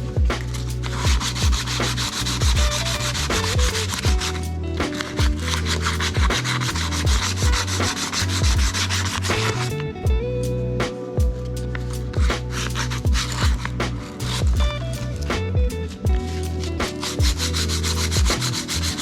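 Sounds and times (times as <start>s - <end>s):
scratchy rubbing texture: 0.0s - 9.9s, 11.5s - 19.0s
music with beat and deep bass: 0.0s - 19.0s.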